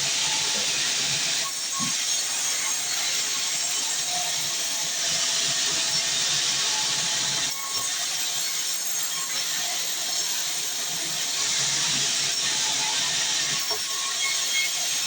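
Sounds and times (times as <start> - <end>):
bandsaw cutting a log: 0.0 - 15.0.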